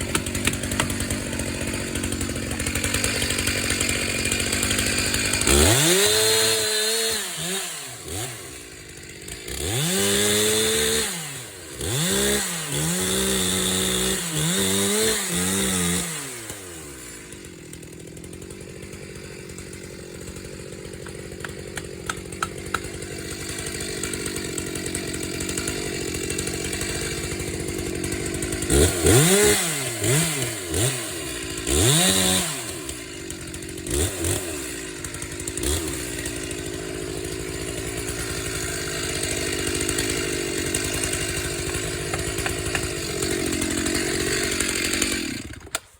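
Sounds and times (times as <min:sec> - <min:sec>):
chainsaw idling: 0:00.0 - 0:45.9
chainsaw revving: 0:00.0 - 0:45.9.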